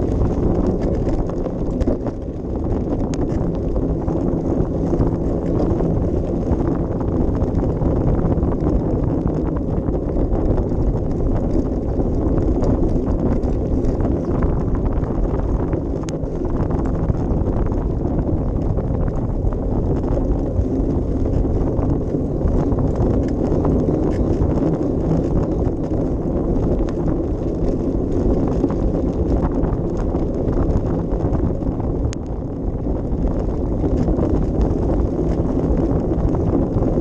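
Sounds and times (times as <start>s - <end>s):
faint clicks and rattles: 0.0s - 37.0s
wind buffeting microphone: 0.0s - 37.0s.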